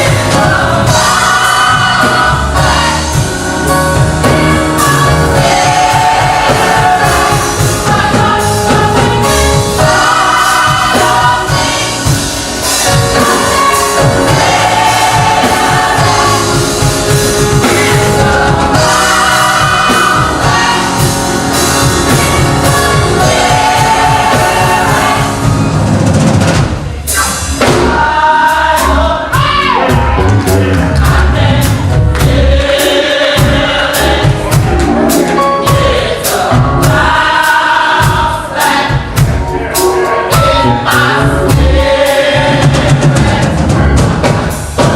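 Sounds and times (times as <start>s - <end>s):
drum kit and band: 0.0s - 44.9s
gospel choir singing: 0.0s - 44.9s.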